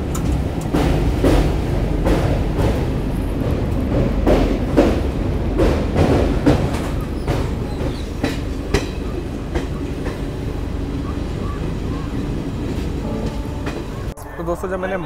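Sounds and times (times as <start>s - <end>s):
wheels clacking over rail joints: 0.0s - 14.2s
train rumbling on a bridge: 0.0s - 15.0s.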